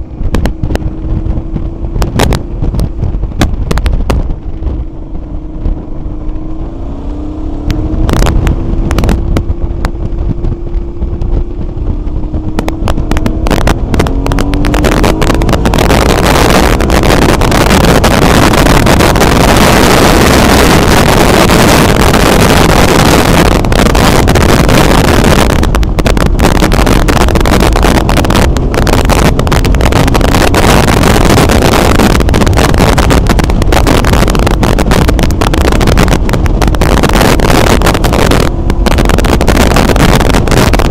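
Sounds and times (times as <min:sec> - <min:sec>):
motorcycle engine shifting gears: 0:00.0 - 0:40.9
wind rush on microphone: 0:00.0 - 0:40.9.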